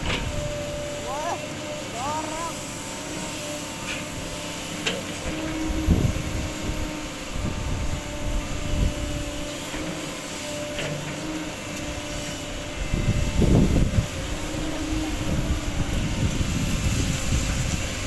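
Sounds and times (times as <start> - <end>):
excavator diesel engine running: 0.0 - 18.0
hydraulic whine: 0.0 - 18.0.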